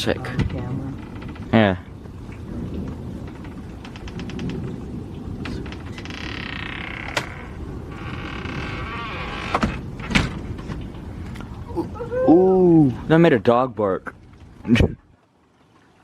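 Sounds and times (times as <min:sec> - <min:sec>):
thunder rumbling: 0:00.0 - 0:13.2
rain: 0:00.0 - 0:16.0.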